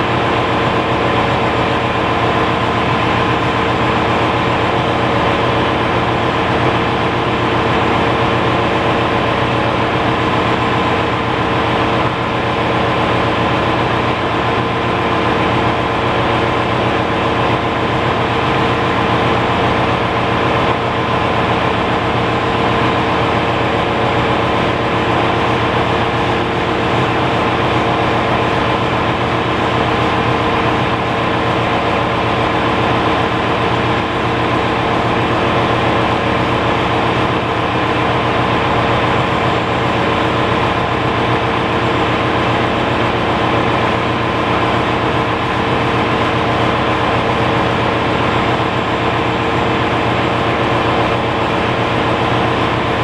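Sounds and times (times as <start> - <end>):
engine-room machinery droning: 0.0 - 53.0.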